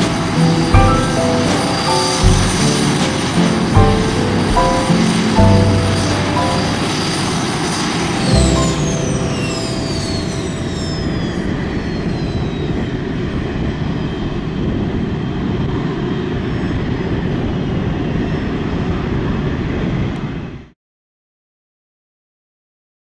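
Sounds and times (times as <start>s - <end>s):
jet aircraft roaring overhead: 0.0s - 20.6s.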